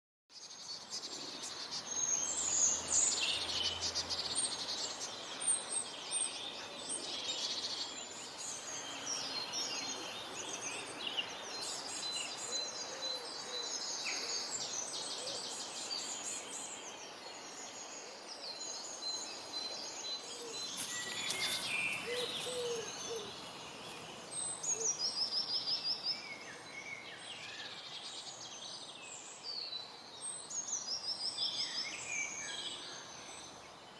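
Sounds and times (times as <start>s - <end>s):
songbirds singing: 0.3s - 33.9s.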